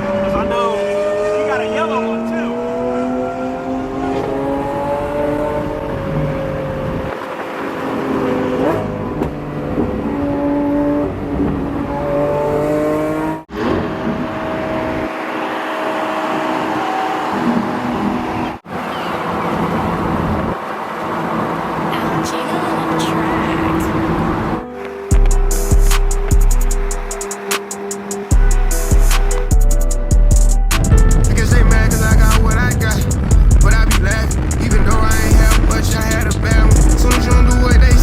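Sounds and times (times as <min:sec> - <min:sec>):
sports car engine revving: 0:00.0 - 0:38.0.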